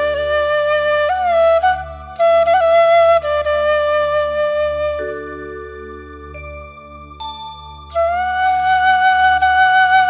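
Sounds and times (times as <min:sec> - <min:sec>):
slow melody of held notes: 0:00.0 - 0:10.0.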